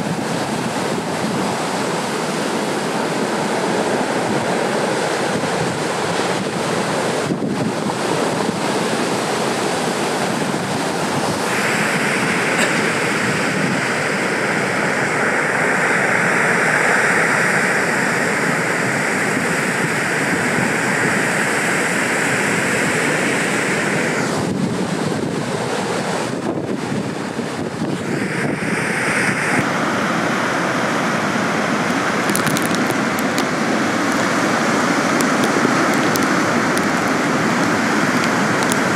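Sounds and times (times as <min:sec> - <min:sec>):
breaking surf: 0:00.0 - 0:38.9
wind buffeting microphone: 0:00.0 - 0:38.9.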